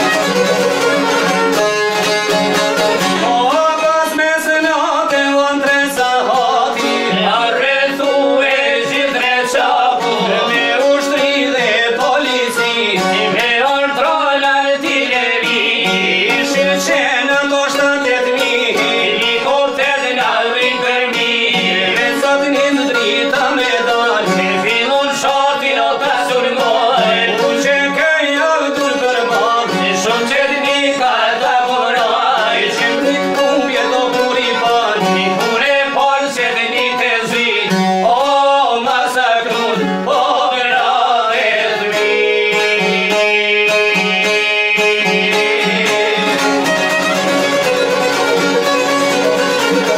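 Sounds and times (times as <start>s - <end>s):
plucked lutes: 0.0s - 49.9s
violin: 0.0s - 49.9s
man singing: 2.0s - 49.9s.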